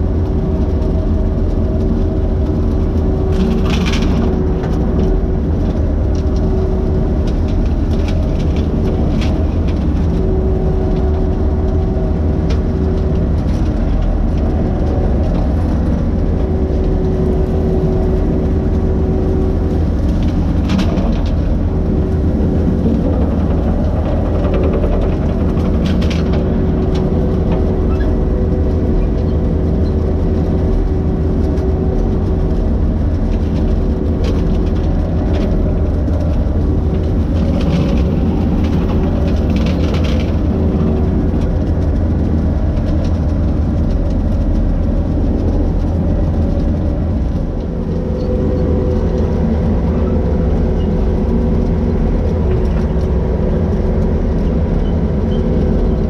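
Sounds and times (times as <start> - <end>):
skid steer engine hum: 0.0 - 56.0.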